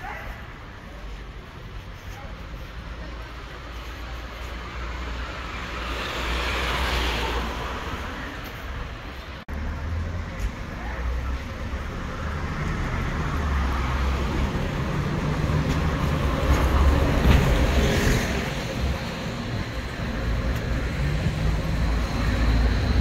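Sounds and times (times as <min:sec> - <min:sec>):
city street traffic: 0:00.0 - 0:23.0
bus driving past: 0:02.6 - 0:23.0.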